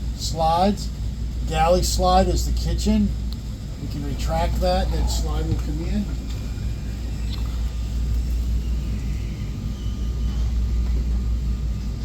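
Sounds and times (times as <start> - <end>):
electric motor rumbling: 0.9 - 12.0.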